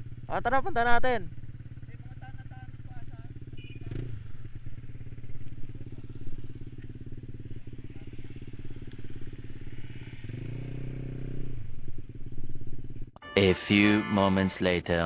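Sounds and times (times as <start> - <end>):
scooter engine running: 0.0 - 13.2.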